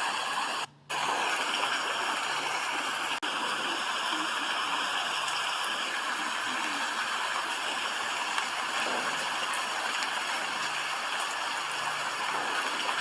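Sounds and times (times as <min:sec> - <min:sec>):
rain patter: 0:00.0 - 0:13.0
steady rain hiss: 0:00.0 - 0:13.0.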